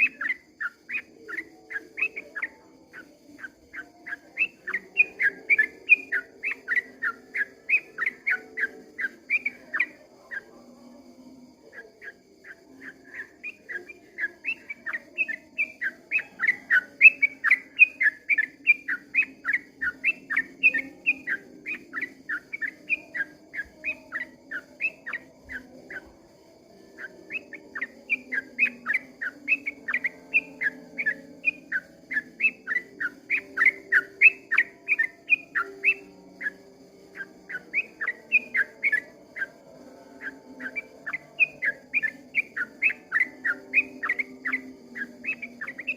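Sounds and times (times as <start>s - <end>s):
bird singing whistled notes: 0.0s - 45.9s.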